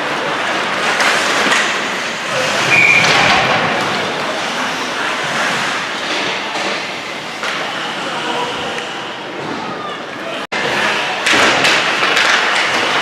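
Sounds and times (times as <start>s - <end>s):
rink crowd noise: 0.0s - 13.0s.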